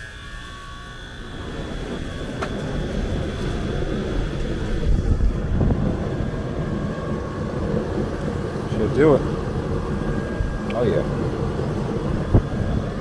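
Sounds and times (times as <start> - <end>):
air conditioner fan rumbling: 0.0 - 13.0.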